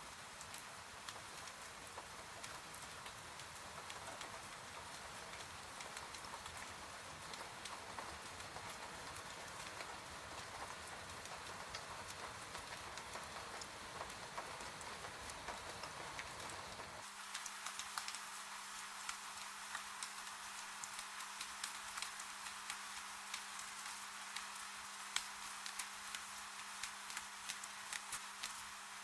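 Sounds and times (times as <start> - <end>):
rain pattering on a window: 0.0 - 29.0.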